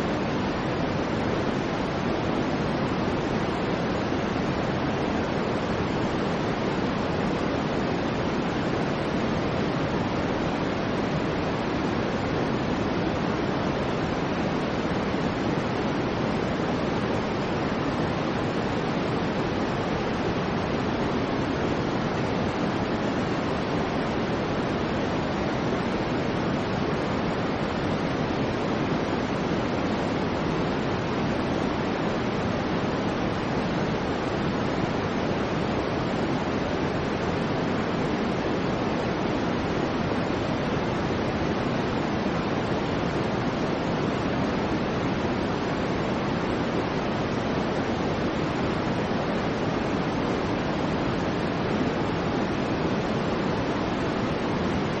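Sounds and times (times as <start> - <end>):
steady soft white noise: 0.0 - 55.0.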